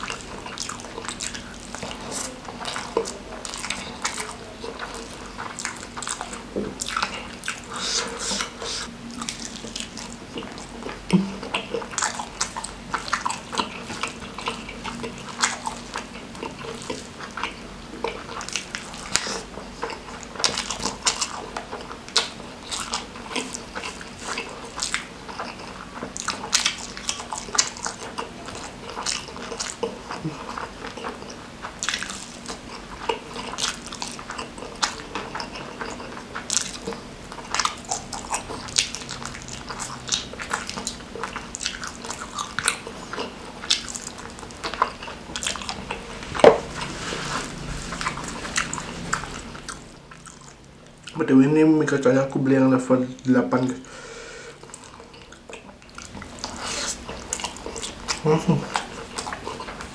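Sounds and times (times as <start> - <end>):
person chewing and smacking: 0.0 - 51.2, 54.5 - 59.9.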